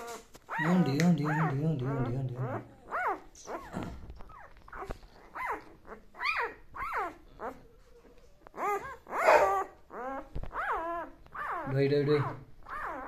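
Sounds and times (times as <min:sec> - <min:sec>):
puppies whining and crying: 0:00.0 - 0:13.0.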